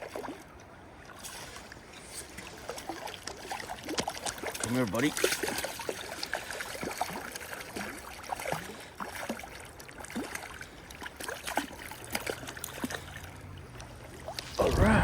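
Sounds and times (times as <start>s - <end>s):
small splashes and drips: 0.0s - 14.6s
creek water trickling: 0.0s - 15.0s.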